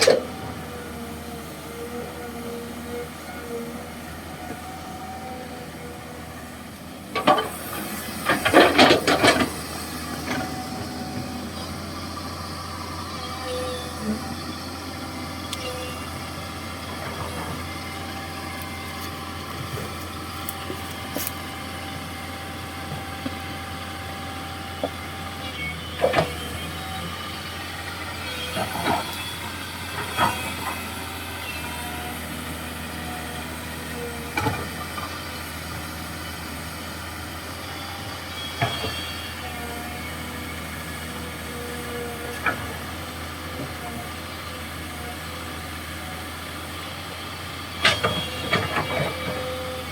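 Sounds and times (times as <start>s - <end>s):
excavator diesel engine: 0.0s - 49.9s.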